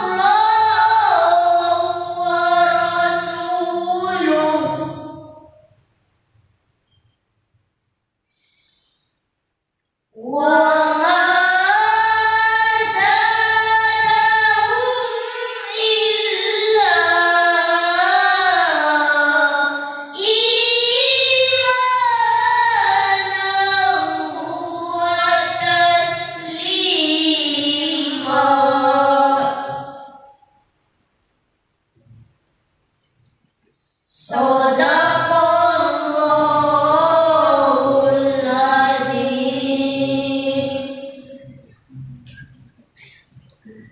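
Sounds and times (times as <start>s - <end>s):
child reciting melodically: 0.0s - 5.6s, 10.2s - 30.3s, 34.1s - 43.9s.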